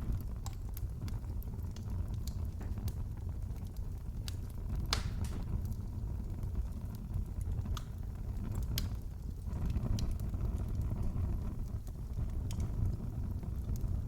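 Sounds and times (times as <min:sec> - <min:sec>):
wood fire crackling in fireplace: 0:00.0 - 0:14.0.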